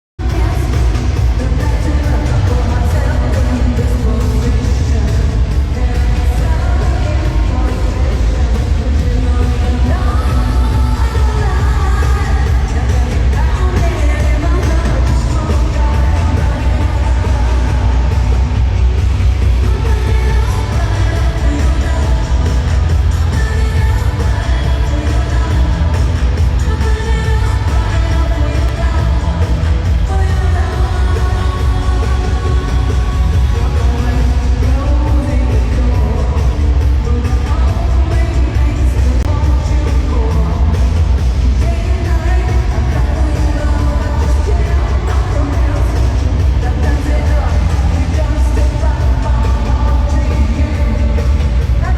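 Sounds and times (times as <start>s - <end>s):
heavy bass: 0.0s - 51.9s
pop music with singing: 0.0s - 51.9s.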